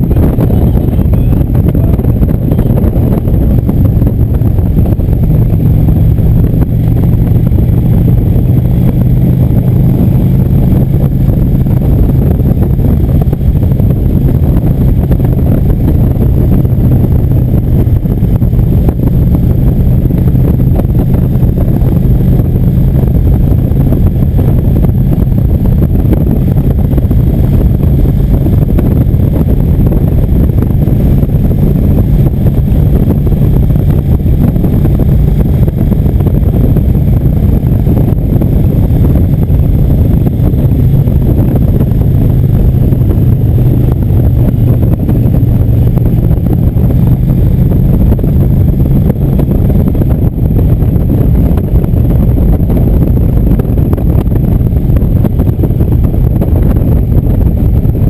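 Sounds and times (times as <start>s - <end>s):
motorcycle engine cruising: 0.0s - 58.0s
wind buffeting microphone: 0.0s - 58.0s.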